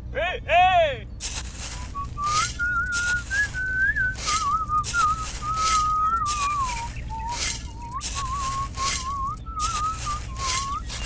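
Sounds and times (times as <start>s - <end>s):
toy shovel scraping damp sand: 1.2s - 11.0s
person whistling a tune: 1.7s - 11.0s.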